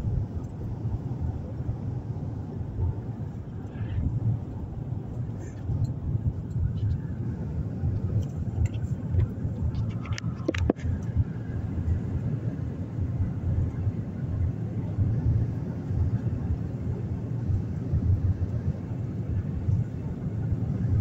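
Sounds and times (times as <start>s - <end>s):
car road rumble: 0.0s - 21.0s.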